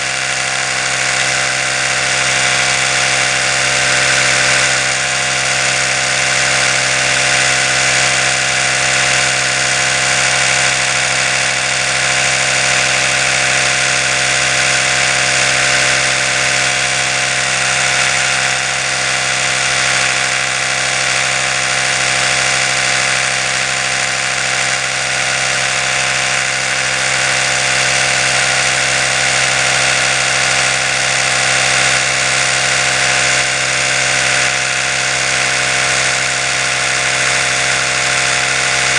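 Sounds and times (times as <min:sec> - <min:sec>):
electric toothbrush buzzing: 0:00.0 - 0:38.9.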